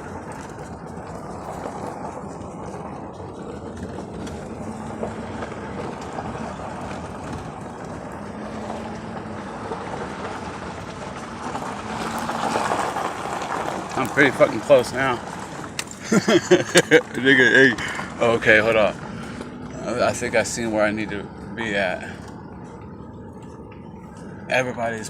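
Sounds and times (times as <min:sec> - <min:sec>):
road and engine noise in cabin: 0:00.0 - 0:25.0.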